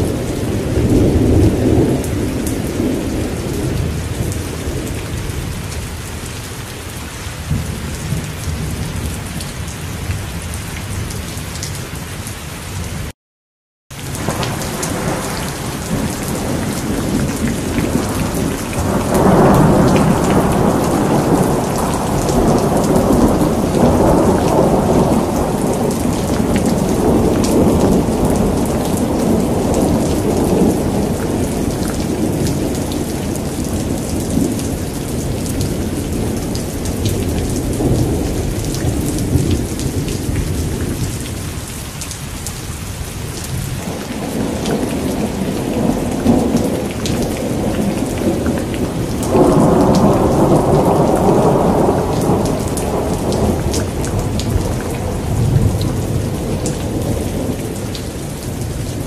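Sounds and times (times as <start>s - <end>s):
rolling thunder: 0.0s - 5.6s, 14.0s - 41.6s, 42.9s - 59.0s
rain falling: 0.0s - 13.1s, 13.9s - 59.0s
raindrops pattering on wet surface: 0.0s - 13.1s, 13.9s - 59.0s.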